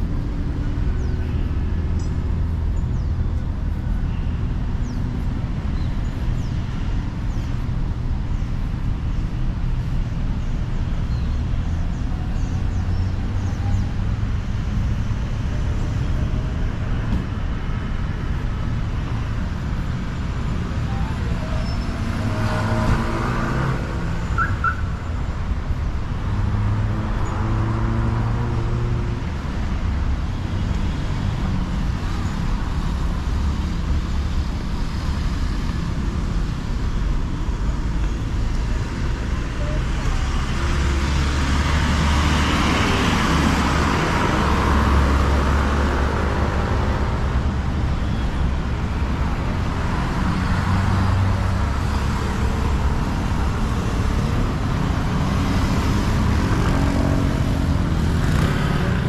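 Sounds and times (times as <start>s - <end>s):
car engine and road rumble: 0.0s - 59.0s
tyre and road noise: 0.0s - 59.0s.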